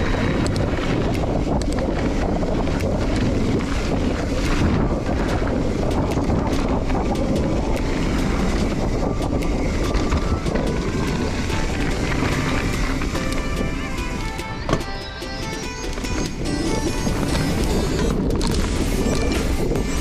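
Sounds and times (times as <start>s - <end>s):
bike rattling and clicking: 0.0s - 20.0s
tyres rolling over dirt: 0.0s - 20.0s
wind buffeting microphone: 0.0s - 20.0s.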